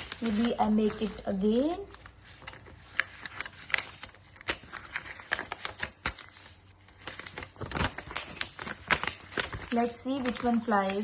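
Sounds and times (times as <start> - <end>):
paper creasing clicks: 0.0 - 11.0
paper crinkling: 0.0 - 11.0.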